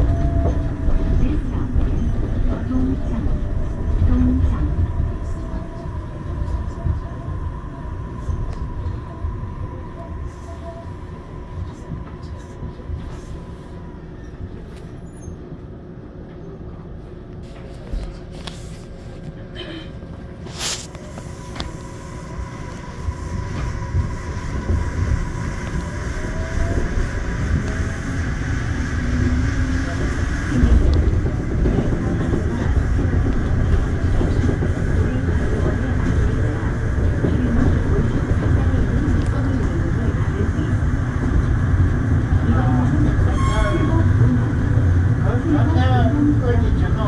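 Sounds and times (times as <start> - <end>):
train running gear rumble: 0.0 - 47.0.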